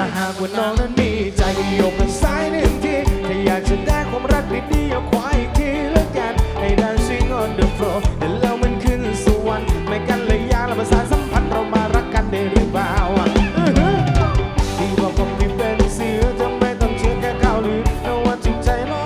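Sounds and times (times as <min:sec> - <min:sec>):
bass: 0:00.0 - 0:19.0
drum kit beat: 0:00.0 - 0:19.0
live band music: 0:00.0 - 0:19.0
wavering lead melody: 0:00.4 - 0:19.0.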